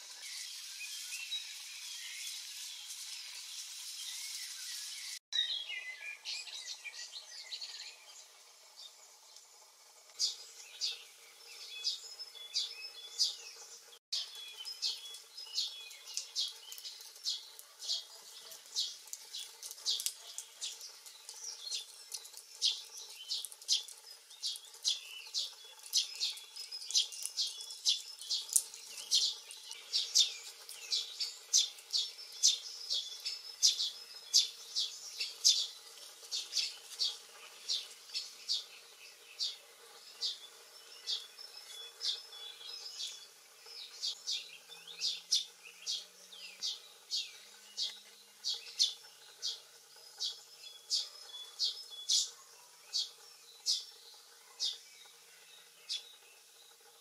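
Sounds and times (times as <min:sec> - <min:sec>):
faint steady hiss: 0:00.0 - 0:57.0
small birds chirping: 0:00.0 - 0:57.0.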